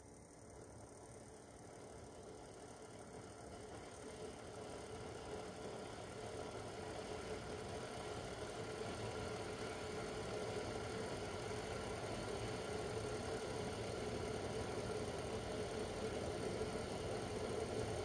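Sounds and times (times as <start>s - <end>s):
hum and rumble of heating water: 0.0s - 18.0s.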